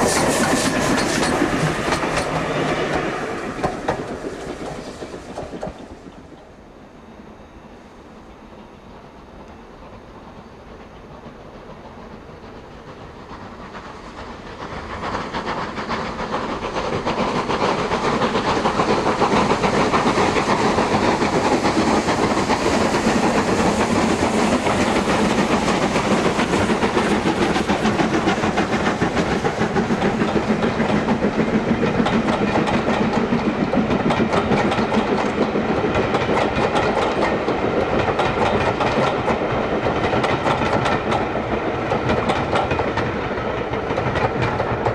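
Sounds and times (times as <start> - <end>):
steam hissing: 0.0 - 6.6, 8.5 - 44.9
steam locomotives working hard: 0.0 - 44.9.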